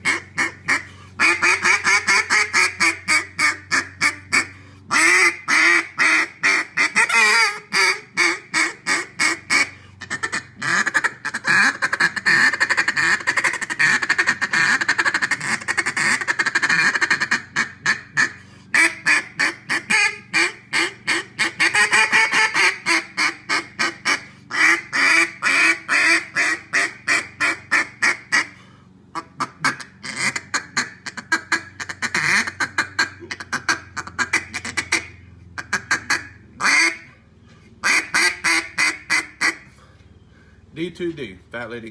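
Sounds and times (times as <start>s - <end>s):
duck call raspy quacks: 0.0s - 37.2s, 37.8s - 39.7s.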